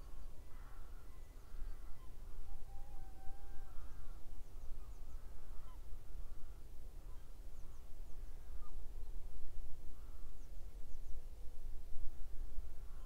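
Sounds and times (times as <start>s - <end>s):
faint bird calls: 0.0s - 9.2s, 9.8s - 11.2s, 12.1s - 13.0s.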